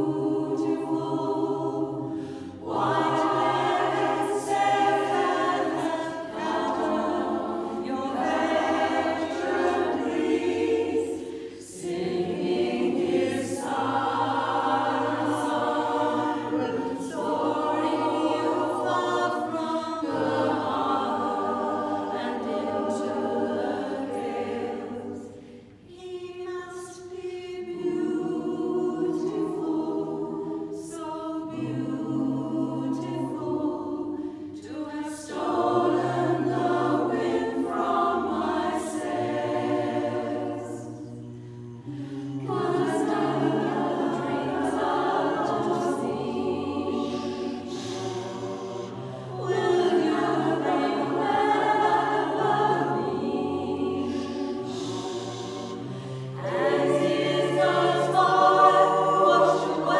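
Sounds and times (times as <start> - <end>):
choir singing a cappella: 0.0 - 59.9.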